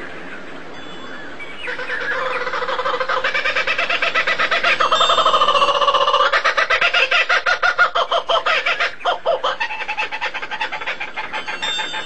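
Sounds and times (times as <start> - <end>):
fowl clucking: 1.8 - 12.0.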